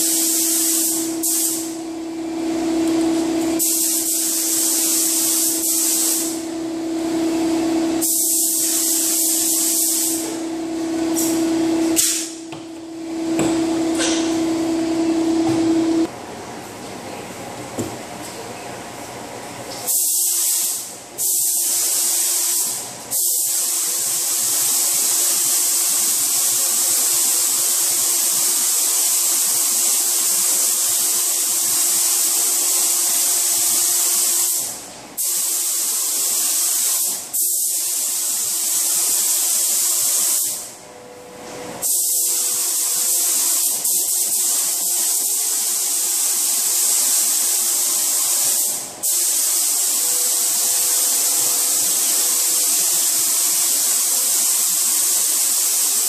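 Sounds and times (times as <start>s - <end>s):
paint spray gun hissing: 0.0s - 6.9s, 7.9s - 16.1s, 19.9s - 40.7s, 41.8s - 56.0s.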